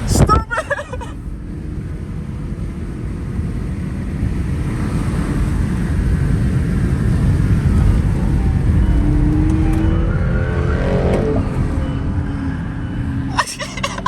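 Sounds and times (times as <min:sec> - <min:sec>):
car engine and exhaust rumble: 0:00.0 - 0:14.0.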